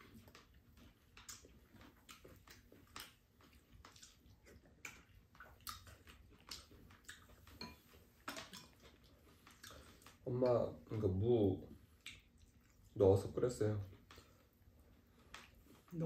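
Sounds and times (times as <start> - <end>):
quiet chewing: 0.0 - 16.0.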